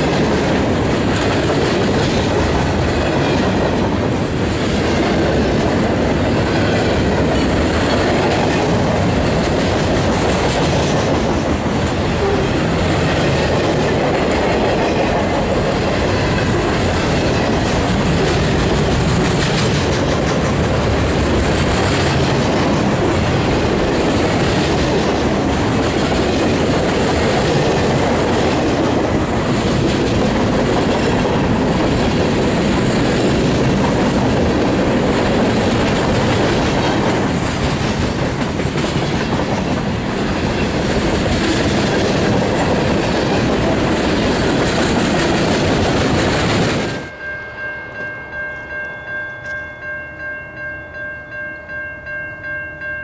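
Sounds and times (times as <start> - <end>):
wheels clicking over rail joints: 0.0 - 47.1
train wheels rumbling on rail: 0.0 - 47.2.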